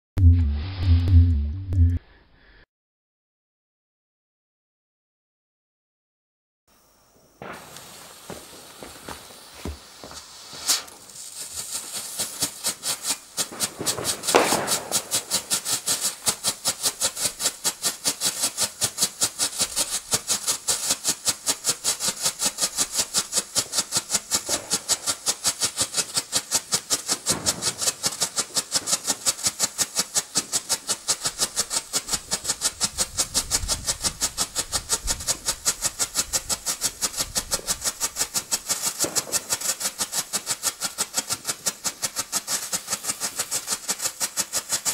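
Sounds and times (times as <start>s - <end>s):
strobe firework popping: 6.8s - 44.9s
hiss of burning composition: 7.2s - 44.9s.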